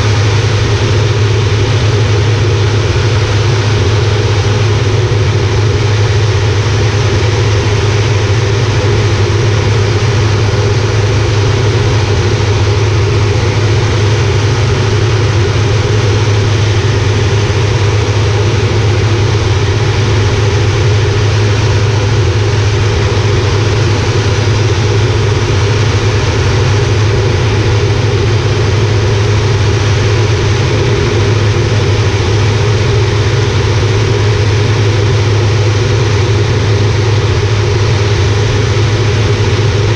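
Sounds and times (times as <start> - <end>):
turboprop engine drone in flight: 0.0 - 39.9.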